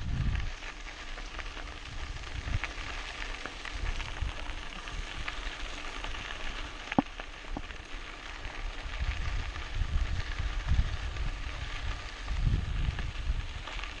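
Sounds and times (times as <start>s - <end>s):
bike tyres crunching on gravel: 0.0s - 14.0s.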